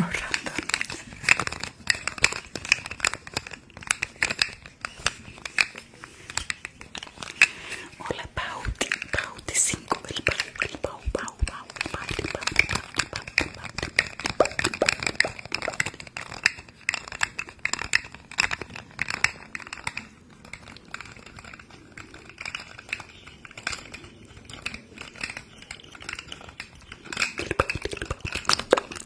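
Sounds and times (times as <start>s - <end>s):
rapid crackling and clicking: 0.0s - 29.0s.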